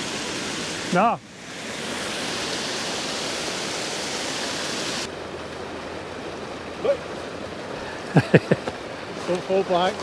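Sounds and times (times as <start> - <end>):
outdoor background: 0.0 - 10.0
running water rushing: 0.0 - 10.0.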